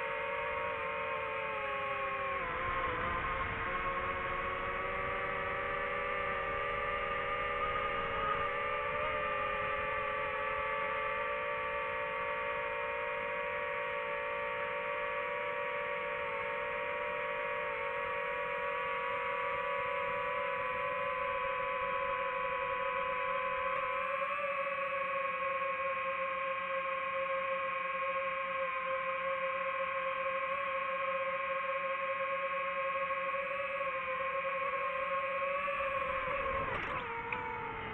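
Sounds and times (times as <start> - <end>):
drone propellers whining: 0.0 - 31.1, 33.0 - 37.9.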